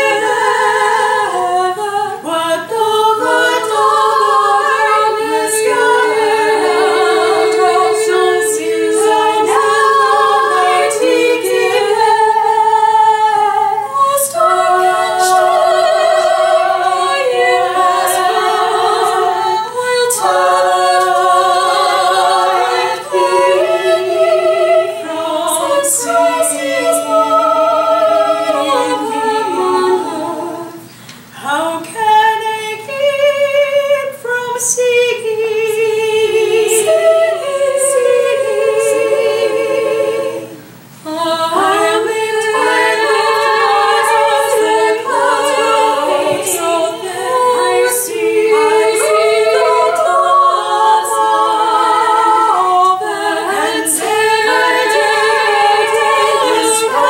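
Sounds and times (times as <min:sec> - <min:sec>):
women singing a cappella: 0:00.0 - 0:57.0.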